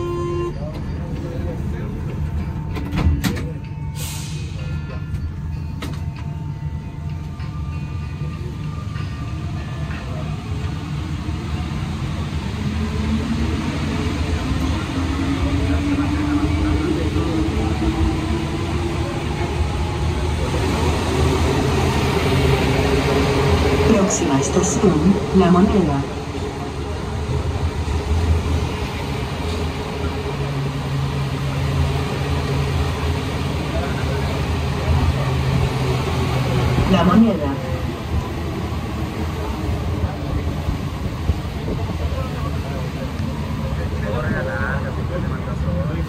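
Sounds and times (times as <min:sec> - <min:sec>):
metro train low rumble: 0:00.0 - 0:46.0.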